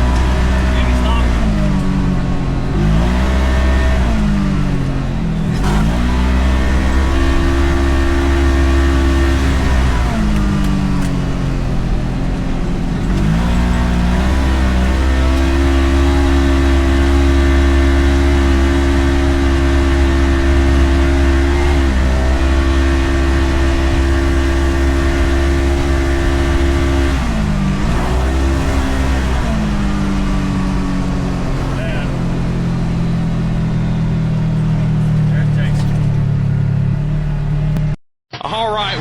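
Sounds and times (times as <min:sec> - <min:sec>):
deep rumble: 0:00.0 - 0:38.0
utility vehicle engine under load: 0:00.0 - 0:38.0.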